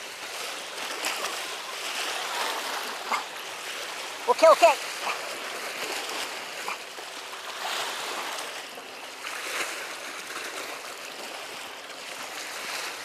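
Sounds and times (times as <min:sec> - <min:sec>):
waves splashing against rocks: 0:00.0 - 0:13.0.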